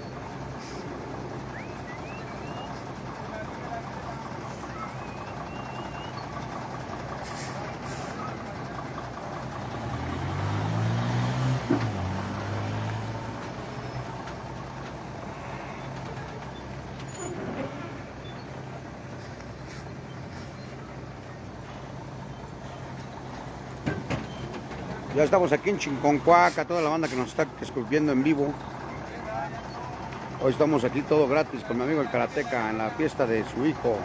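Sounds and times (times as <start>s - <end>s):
heavy truck engine revving: 0.0s - 34.0s.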